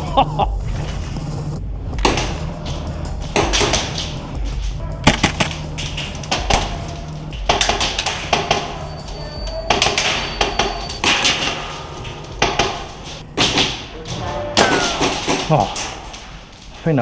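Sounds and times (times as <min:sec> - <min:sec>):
low background music: 0:00.0 - 0:17.0.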